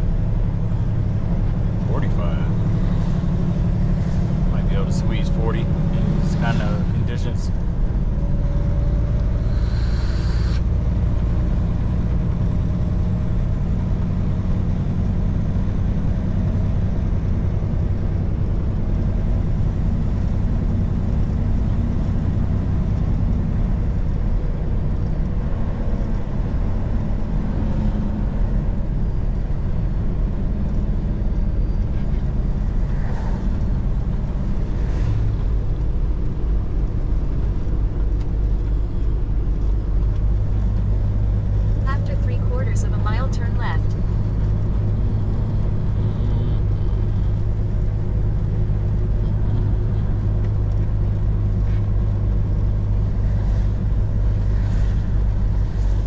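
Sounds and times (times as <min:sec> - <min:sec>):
truck engine and tyres droning: 0:00.0 - 0:56.0.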